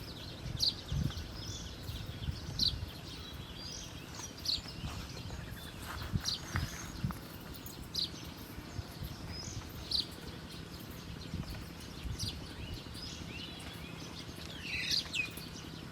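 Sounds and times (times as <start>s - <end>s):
wild birds chirping: 0.0s - 15.9s.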